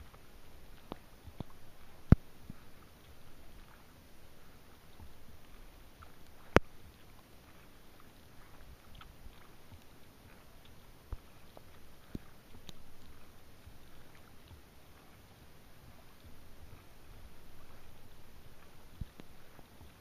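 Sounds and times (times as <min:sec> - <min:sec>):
raindrops ticking: 0:00.0 - 0:07.2, 0:08.5 - 0:14.8, 0:15.9 - 0:20.0
background hiss: 0:00.0 - 0:20.0.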